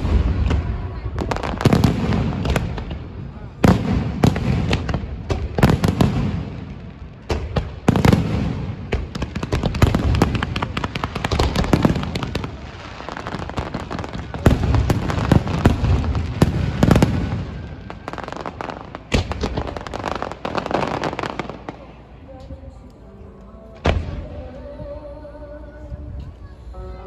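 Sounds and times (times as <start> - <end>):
fireworks bangs: 0.0 - 21.9
fireworks crackling and popping: 0.0 - 22.6.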